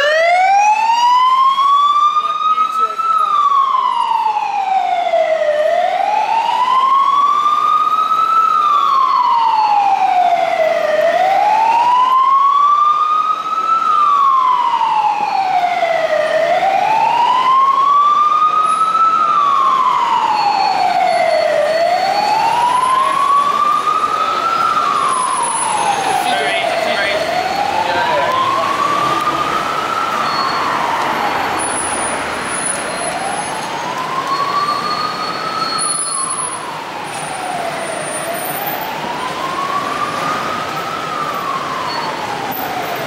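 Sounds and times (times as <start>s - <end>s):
fire engine siren wailing: 0.0s - 43.0s.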